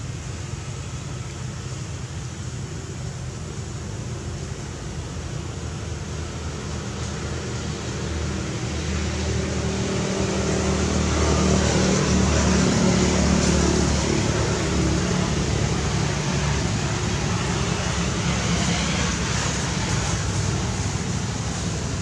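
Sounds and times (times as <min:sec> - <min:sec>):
traffic hiss: 0:00.0 - 0:22.0.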